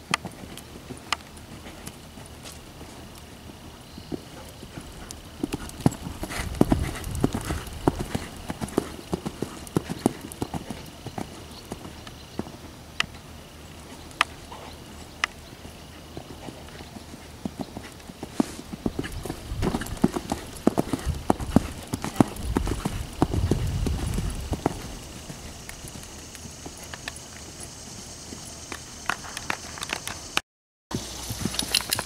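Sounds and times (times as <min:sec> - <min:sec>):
horse hoofbeats on sand: 0:00.0 - 0:29.8, 0:30.9 - 0:32.0.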